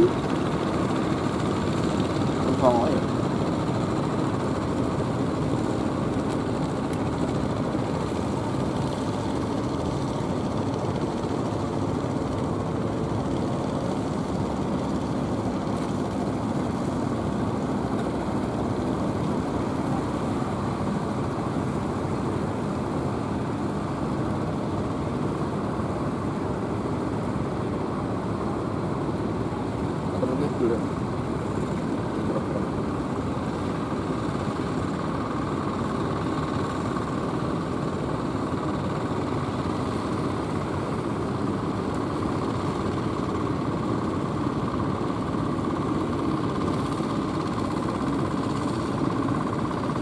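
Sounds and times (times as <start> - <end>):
boat engines running: 0.0 - 50.0.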